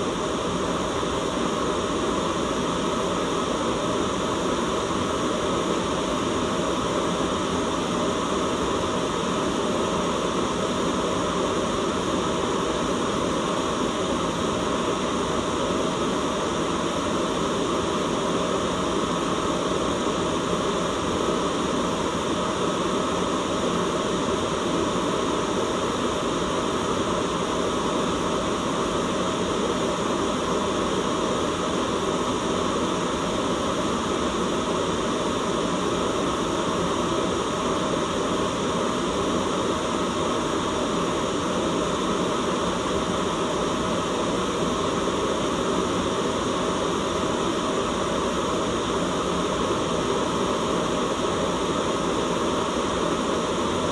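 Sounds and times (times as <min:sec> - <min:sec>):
white noise hiss: 0:00.0 - 0:53.9.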